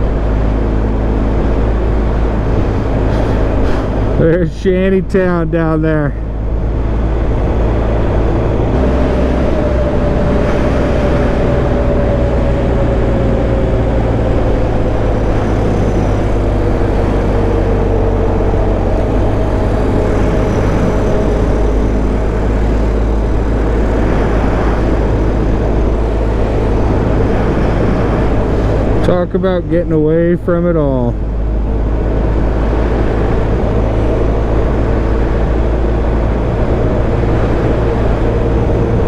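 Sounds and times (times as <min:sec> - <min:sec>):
wind rush on microphone: 0:00.0 - 0:39.0.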